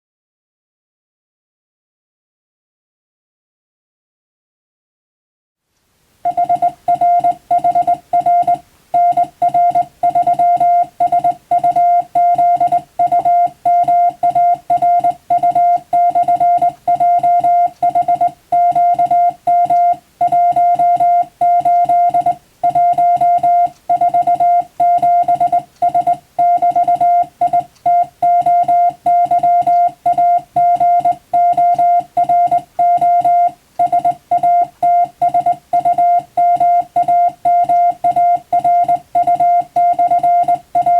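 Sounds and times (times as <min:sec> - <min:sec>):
morse code beeps: 0:06.3 - 0:40.9.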